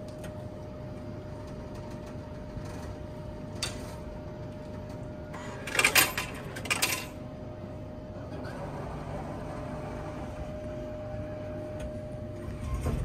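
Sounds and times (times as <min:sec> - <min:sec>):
faint constant whine: 0:00.0 - 0:13.0
vending machine humming: 0:00.0 - 0:13.0.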